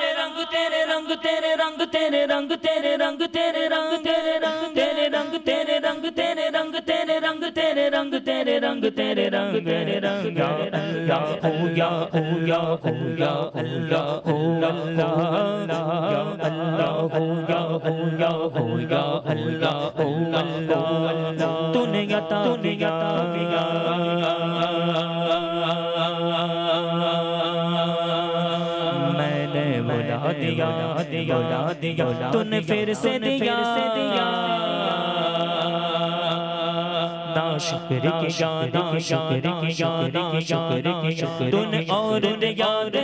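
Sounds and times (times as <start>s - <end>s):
man singing into microphone: 0.0s - 43.0s.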